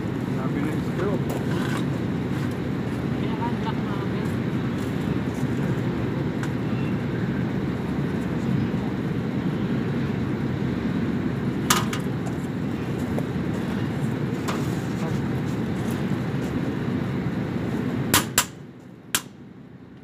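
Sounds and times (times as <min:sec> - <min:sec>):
air handling machinery rumbling: 0:00.0 - 0:20.0.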